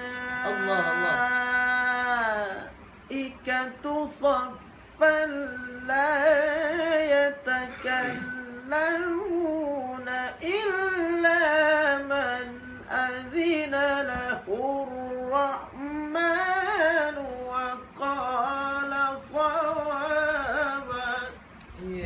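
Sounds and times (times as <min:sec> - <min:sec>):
person chanting recitation: 0:00.0 - 0:22.0.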